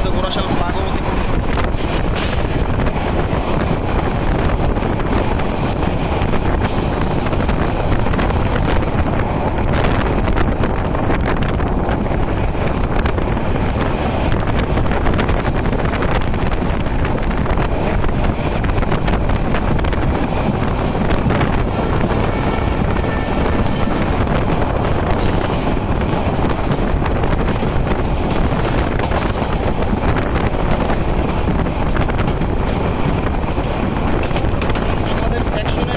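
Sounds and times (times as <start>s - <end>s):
train running on rails: 0.0s - 35.9s
wind buffeting microphone: 0.0s - 35.9s.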